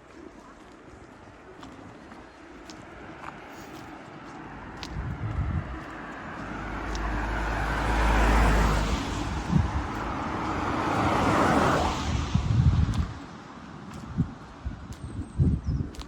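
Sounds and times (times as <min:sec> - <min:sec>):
vehicles passing: 0:00.0 - 0:15.6.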